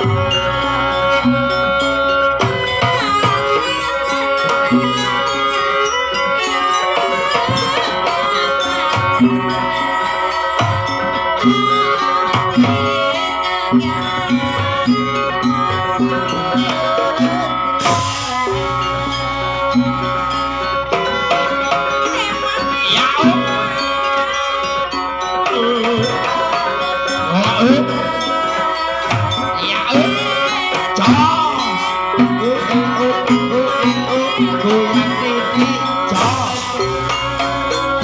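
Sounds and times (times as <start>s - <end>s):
gamelan metal percussion: 0.0s - 38.0s
hand drums: 0.0s - 38.0s
ornamented melody line: 0.0s - 38.0s.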